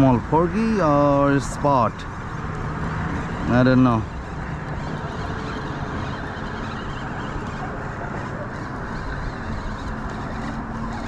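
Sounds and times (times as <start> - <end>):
passing traffic: 0.0 - 11.0
wind: 0.0 - 11.0.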